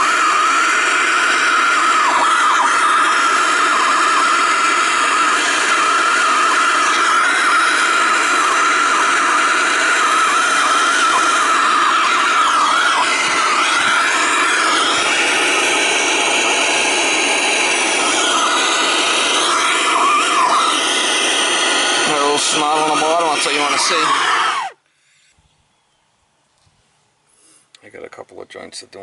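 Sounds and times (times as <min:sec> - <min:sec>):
gas torch flame hissing: 0:00.0 - 0:24.8
wavering flame whistle: 0:00.0 - 0:24.8.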